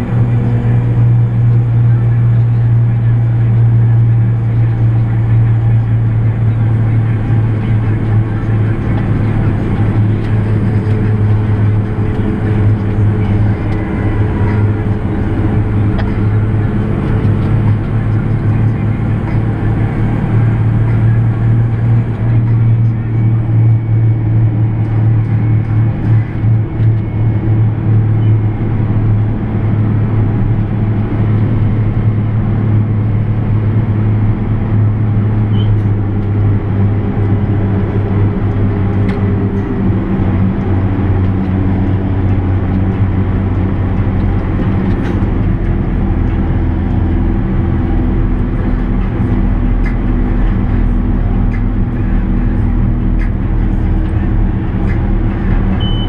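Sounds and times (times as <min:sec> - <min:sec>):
tractor engine droning in cab: 0:00.0 - 0:56.0.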